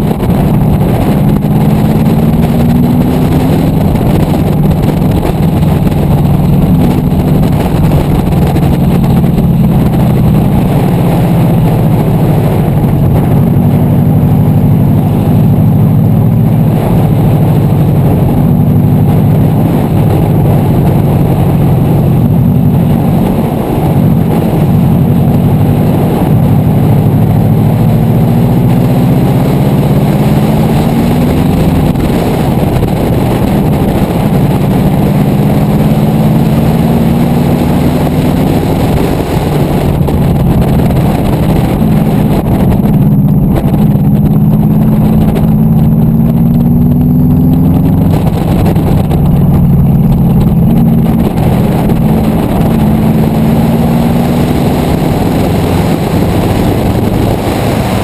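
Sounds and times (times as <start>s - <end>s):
car engine accelerating hard: 0.0s - 58.0s
road and wind noise: 0.0s - 58.0s.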